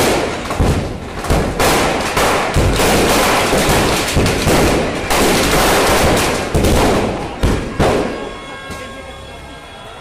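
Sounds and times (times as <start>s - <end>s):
firecrackers banging and crackling: 0.0s - 9.7s.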